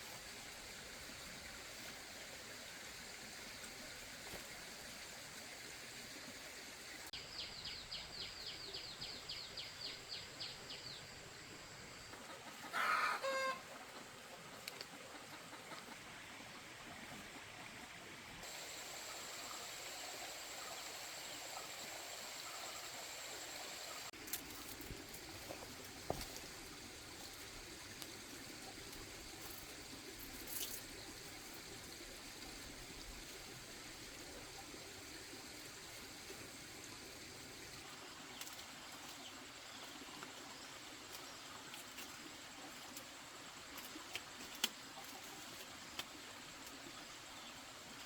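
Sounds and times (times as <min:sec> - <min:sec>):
faint steady hiss: 0:00.0 - 0:48.0.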